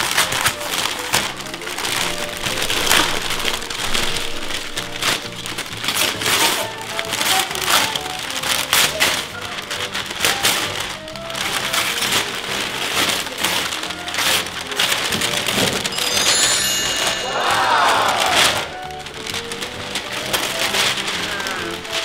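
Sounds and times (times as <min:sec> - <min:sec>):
background music: 0:00.0 - 0:22.0
paper crinkling and tearing: 0:00.0 - 0:22.0.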